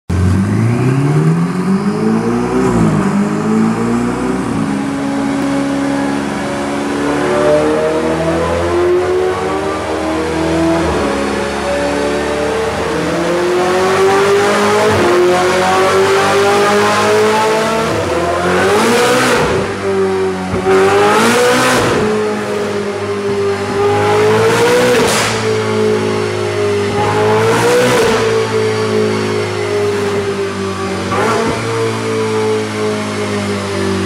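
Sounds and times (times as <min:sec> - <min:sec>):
car engine running on dyno: 0:00.1 - 0:34.0.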